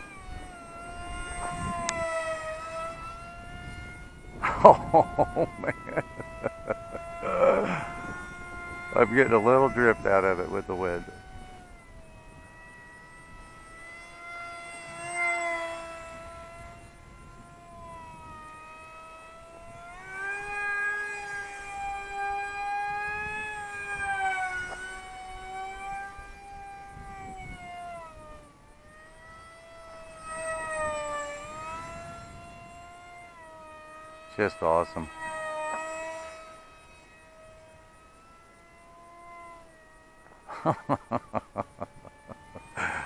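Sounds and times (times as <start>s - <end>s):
electric motor and propeller whining: 0.0s - 43.0s.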